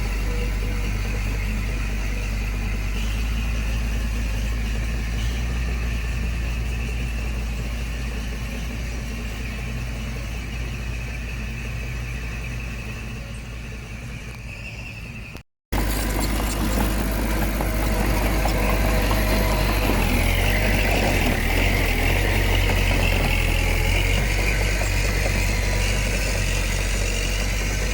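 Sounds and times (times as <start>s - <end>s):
heavy diesel engine rumbling: 0.0s - 27.9s.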